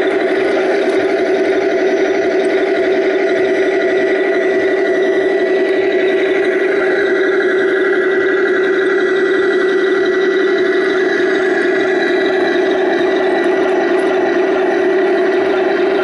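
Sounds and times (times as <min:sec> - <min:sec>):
model tank motor humming: 0:00.0 - 0:16.0
thin high whine: 0:00.0 - 0:16.0.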